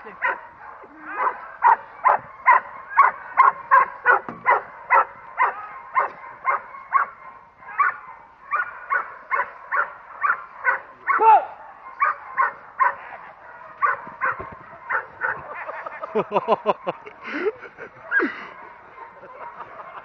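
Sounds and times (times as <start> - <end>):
dog barking: 0.0 - 20.0.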